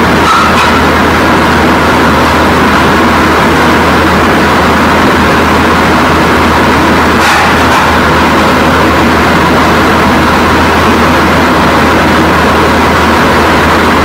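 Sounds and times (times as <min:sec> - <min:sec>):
loud rushing noise: 0:00.0 - 0:14.0.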